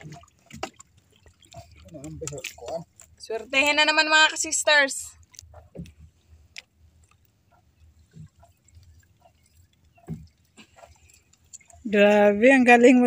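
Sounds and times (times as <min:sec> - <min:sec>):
water lapping: 0:00.0 - 0:13.0.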